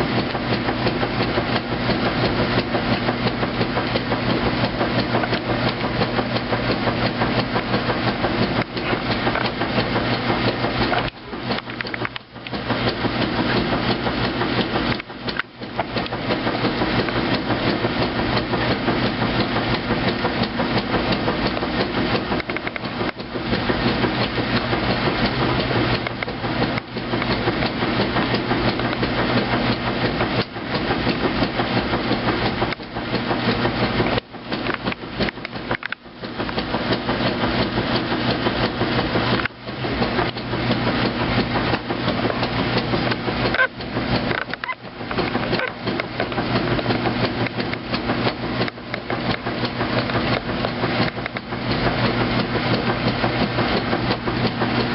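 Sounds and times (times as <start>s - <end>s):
washing machine knocking and rattling: 0.0s - 54.9s.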